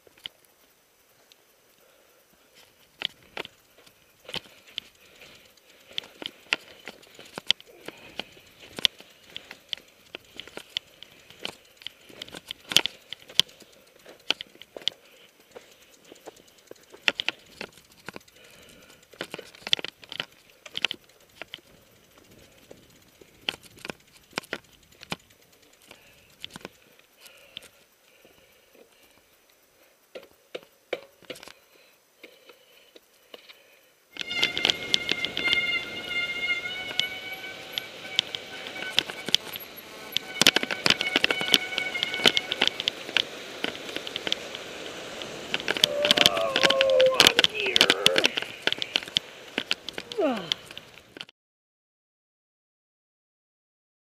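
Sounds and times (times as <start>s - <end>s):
mountain bike rattling on trail: 0.0s - 51.3s.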